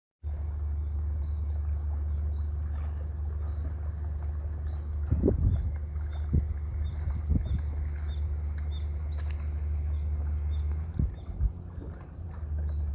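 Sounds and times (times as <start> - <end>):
high insect drone: 0.3 - 12.9
low rumble: 0.3 - 12.9.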